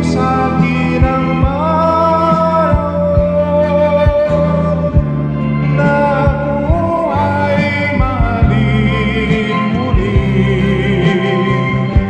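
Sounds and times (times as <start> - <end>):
karaoke backing track with bass beat: 0.0 - 12.0
man singing ballad: 0.0 - 12.0.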